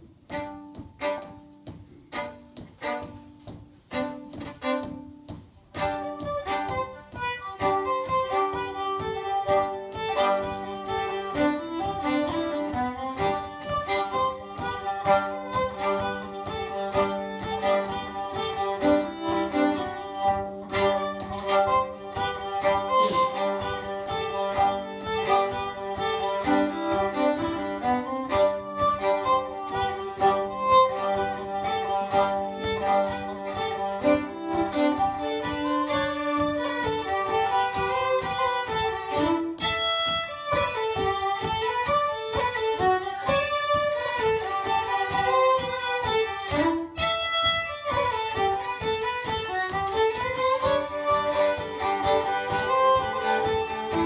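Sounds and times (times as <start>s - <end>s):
live folk fiddle music: 0.0s - 54.0s.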